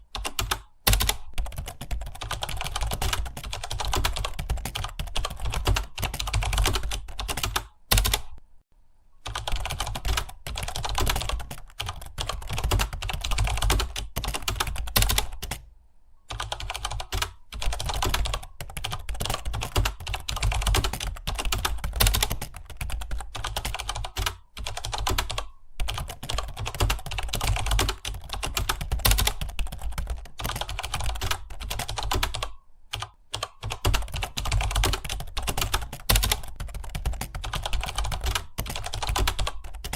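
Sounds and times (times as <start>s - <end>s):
fast typing on computer keyboard: 0.1s - 8.4s, 9.2s - 15.6s, 16.3s - 39.9s.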